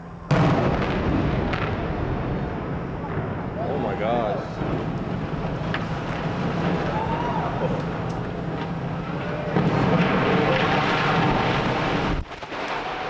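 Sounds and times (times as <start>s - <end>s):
smokestack collapsing rumble: 0.0s - 13.0s.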